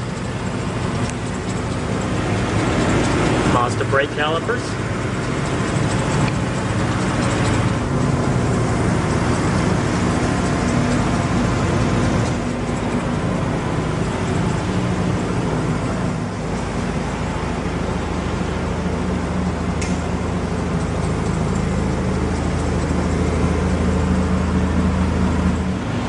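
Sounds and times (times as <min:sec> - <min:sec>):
rotary engine idling: 0:00.0 - 0:26.0.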